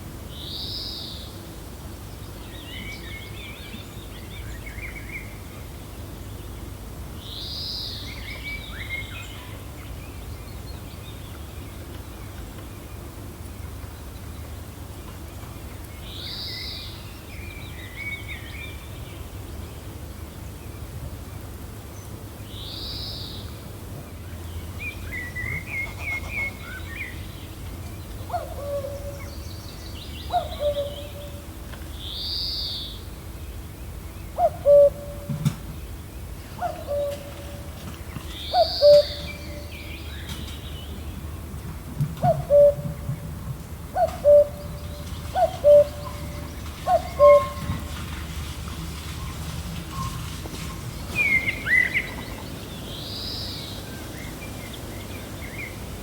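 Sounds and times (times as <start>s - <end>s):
steady low wind: 0.0s - 56.0s.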